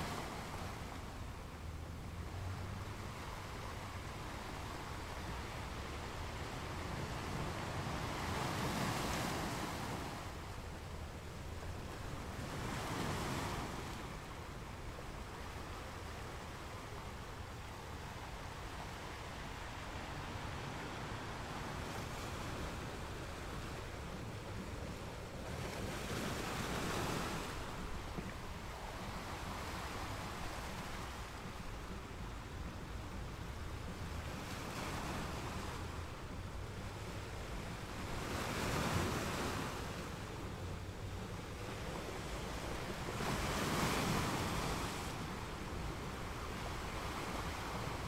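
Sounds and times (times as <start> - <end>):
ocean waves washing: 0.0 - 48.0.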